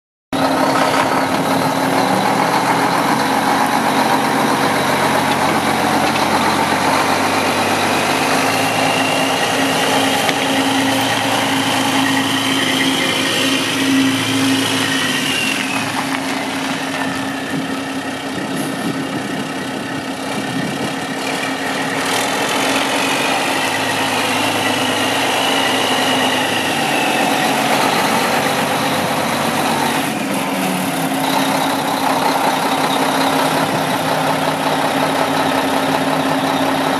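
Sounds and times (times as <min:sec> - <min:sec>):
diesel truck engine idling: 0:00.4 - 0:36.9.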